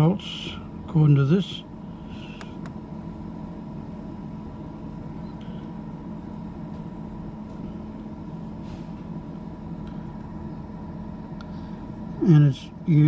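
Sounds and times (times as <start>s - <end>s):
fridge compressor humming: 0.0s - 13.0s.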